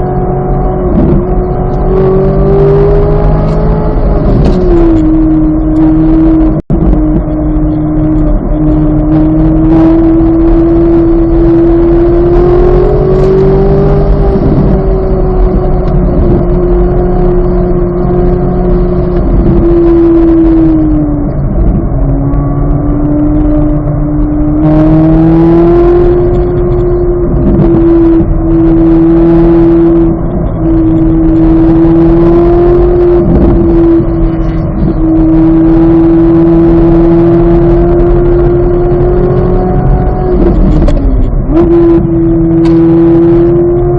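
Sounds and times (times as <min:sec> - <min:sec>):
car engine at high revs: 0:00.0 - 0:43.9.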